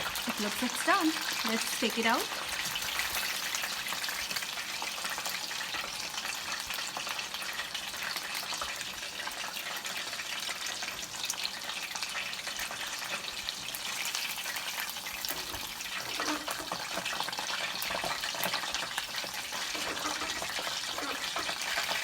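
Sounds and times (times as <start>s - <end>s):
deep-frying sizzle with pops: 0.0s - 22.0s.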